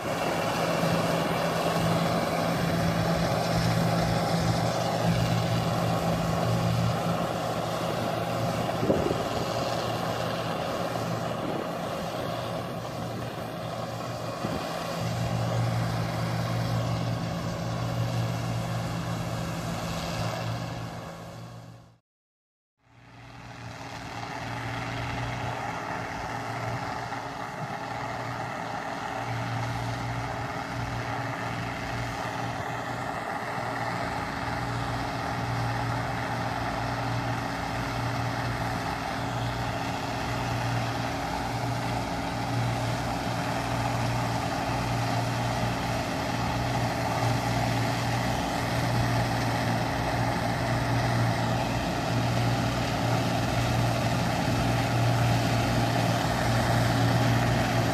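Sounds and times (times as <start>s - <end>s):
combine harvester diesel engine: 0.0s - 22.0s, 22.8s - 57.9s.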